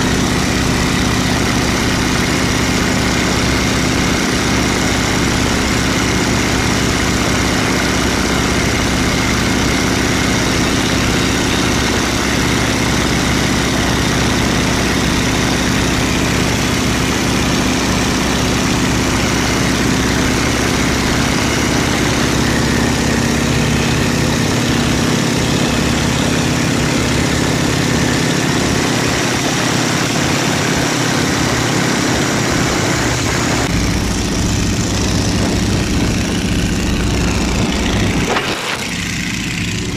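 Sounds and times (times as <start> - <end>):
radial engine running: 0.0 - 39.9
wind rush and propeller blast: 0.0 - 39.9.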